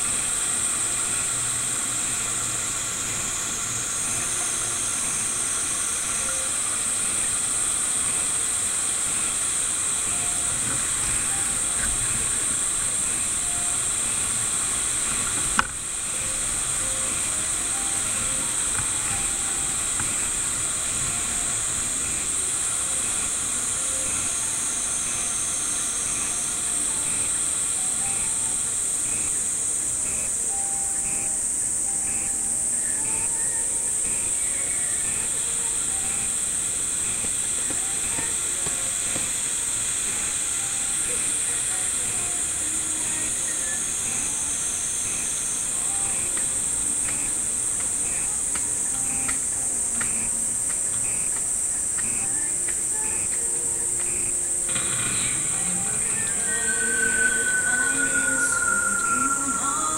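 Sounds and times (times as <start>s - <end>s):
faint musical tones: 0.0s - 59.9s
steady high hiss: 0.0s - 59.9s.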